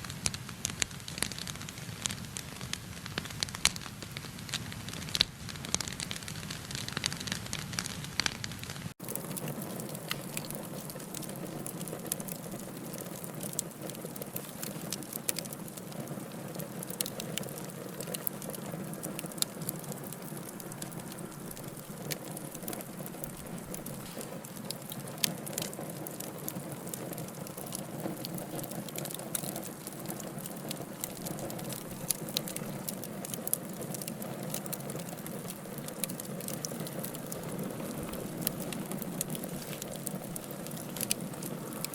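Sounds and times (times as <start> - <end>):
fire hiss: 0.0 - 41.9
wood fire crackling: 0.0 - 41.9.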